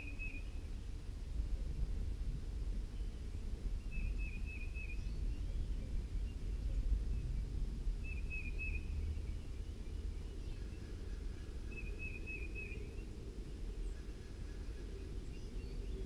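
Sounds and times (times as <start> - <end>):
bird chirping: 0.0 - 0.7, 2.9 - 7.4, 8.0 - 16.0
low outdoor rumble: 0.0 - 16.0.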